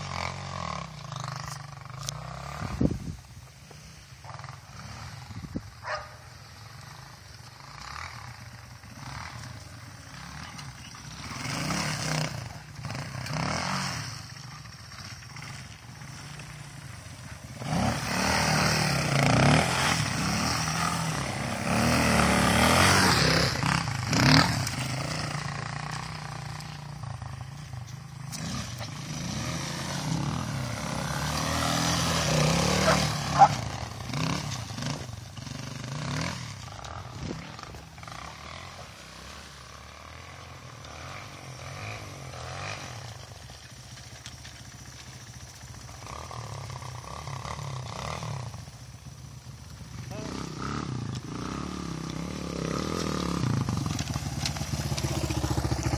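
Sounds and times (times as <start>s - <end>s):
dirt bike engine revving: 0.0s - 3.2s, 4.3s - 55.9s
tire spinning in snow: 0.0s - 55.9s.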